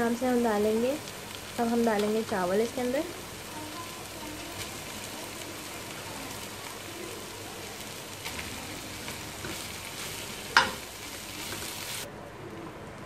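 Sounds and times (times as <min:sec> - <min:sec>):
vegetables sizzling in a pot: 0:00.0 - 0:12.1.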